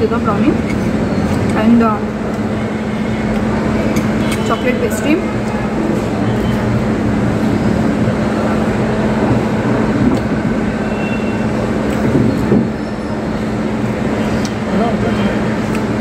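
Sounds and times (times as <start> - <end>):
ventilation noise: 0.0 - 16.0.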